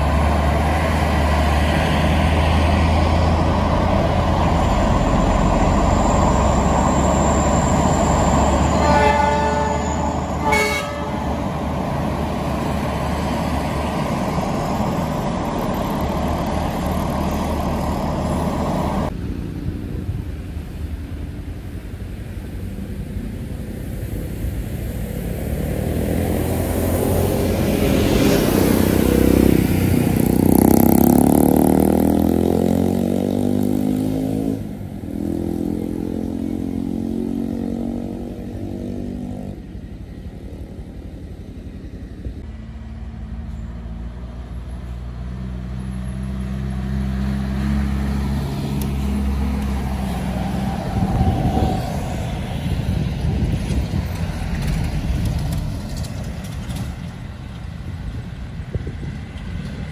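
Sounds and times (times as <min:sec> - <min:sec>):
bus diesel engine passing: 0:00.0 - 0:59.9.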